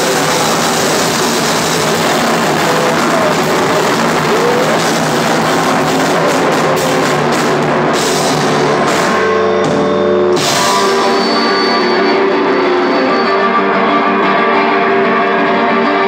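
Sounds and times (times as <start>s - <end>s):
drum kit with cymbals: 0.0s - 13.5s
bass guitar: 0.0s - 16.0s
ringing guitar chords: 0.0s - 16.0s.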